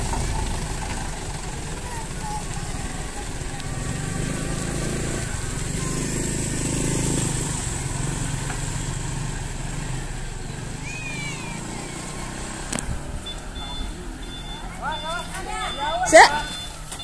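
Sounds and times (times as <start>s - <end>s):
diesel truck engine at low revs: 0.0s - 15.5s
motorcycle passing: 0.0s - 17.0s.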